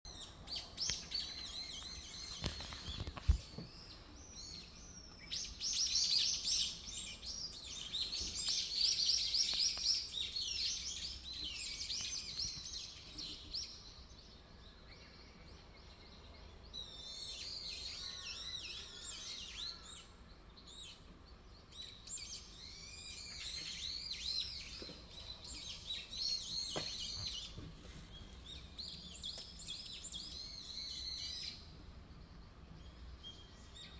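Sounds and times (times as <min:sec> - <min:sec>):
songbirds chirping in chorus: 0:00.1 - 0:33.9.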